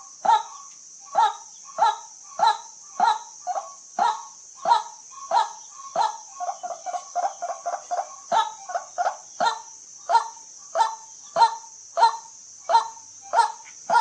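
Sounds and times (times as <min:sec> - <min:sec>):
steady high hiss: 0:00.0 - 0:14.0
waterhen calling: 0:00.0 - 0:14.0.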